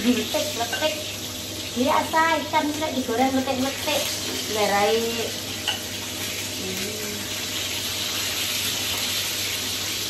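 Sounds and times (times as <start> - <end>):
fish frying in hot oil: 0.0 - 10.0
range hood fan running: 0.0 - 10.0
tap running at sink: 0.0 - 10.0.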